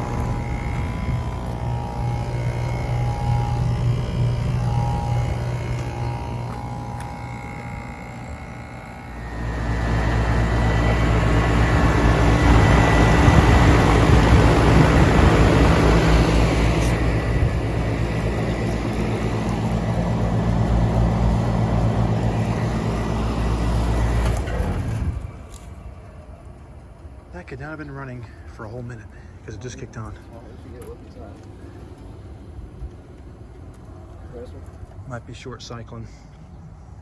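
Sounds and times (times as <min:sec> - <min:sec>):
air conditioner compressor humming: 0:00.0 - 0:37.0
condenser fan running: 0:00.0 - 0:37.0.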